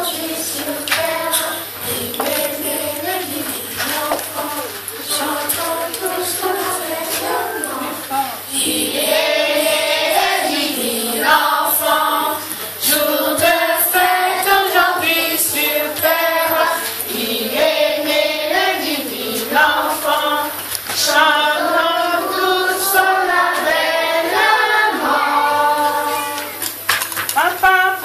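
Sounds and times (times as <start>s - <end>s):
choir singing unaccompanied: 0.0s - 26.8s.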